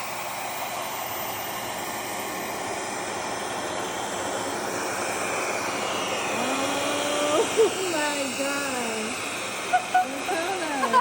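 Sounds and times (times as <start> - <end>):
hair dryer air rushing: 0.0 - 11.0.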